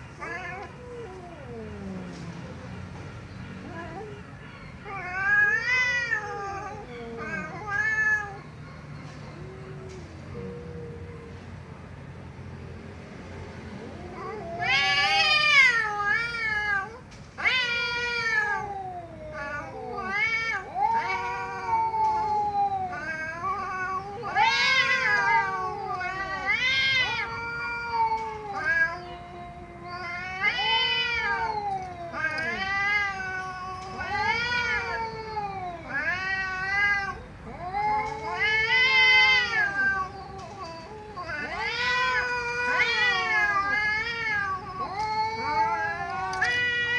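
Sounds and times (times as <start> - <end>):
cat meowing: 0.1 - 3.0, 3.6 - 11.3, 13.8 - 46.9.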